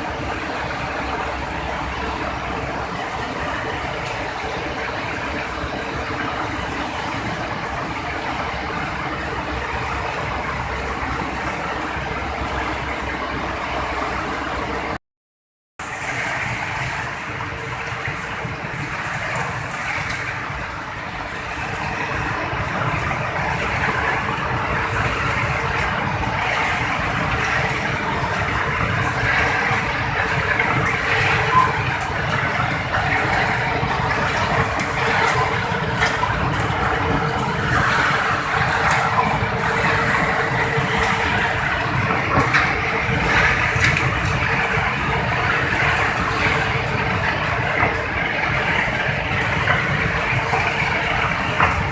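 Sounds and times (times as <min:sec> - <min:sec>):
mill machinery din: 0:00.0 - 0:15.0, 0:15.8 - 0:51.9.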